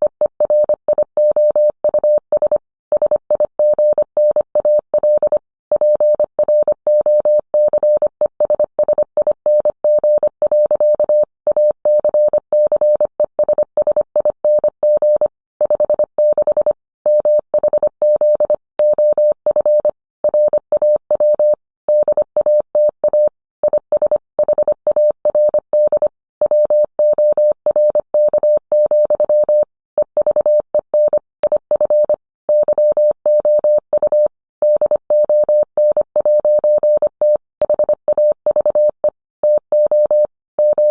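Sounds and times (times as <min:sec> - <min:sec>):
morse code beeps: 0:00.3 - 0:40.9.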